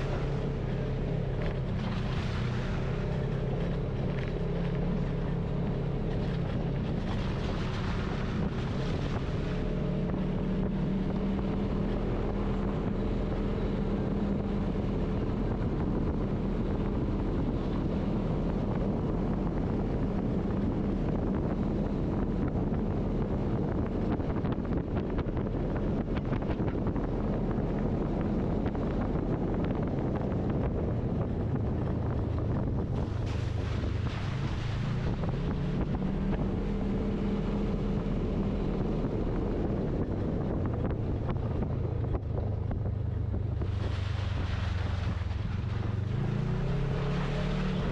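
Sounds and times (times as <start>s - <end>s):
vehicle engine running: 0.0s - 47.9s
wind noise on microphone: 0.0s - 47.9s.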